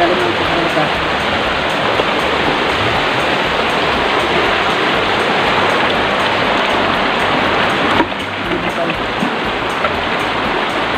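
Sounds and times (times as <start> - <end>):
creek rushing over stones: 0.0 - 10.9.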